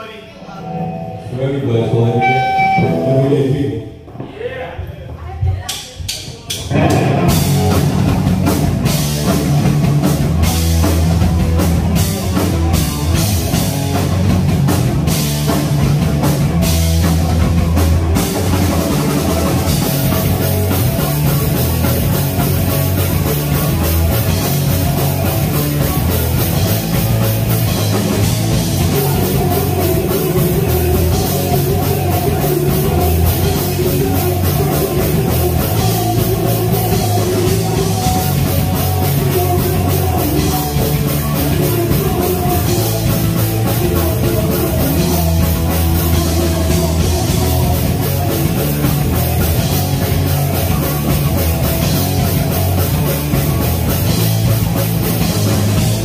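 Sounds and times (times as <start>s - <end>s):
punk rock band playing: 0.0s - 4.3s, 5.5s - 56.0s.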